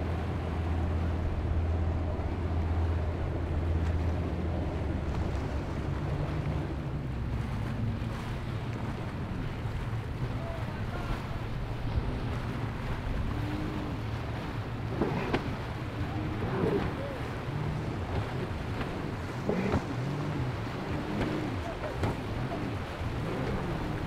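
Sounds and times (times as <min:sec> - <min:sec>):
choppy water washing: 0:00.0 - 0:24.0
watercraft engine running: 0:00.0 - 0:24.0.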